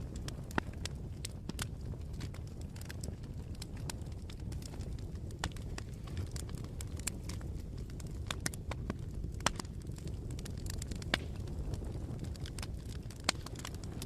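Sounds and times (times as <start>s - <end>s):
campfire crackling: 0.0s - 14.0s
steady low rumble: 0.0s - 14.0s.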